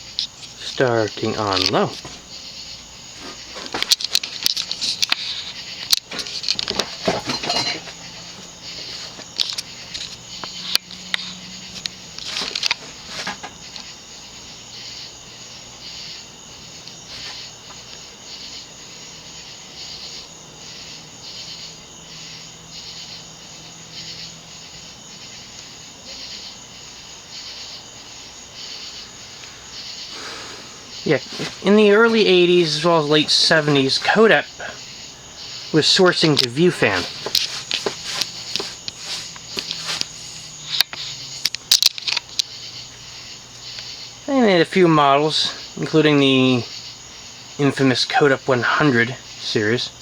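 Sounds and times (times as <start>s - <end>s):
ceiling fan clicking and rattling: 0.0s - 50.0s.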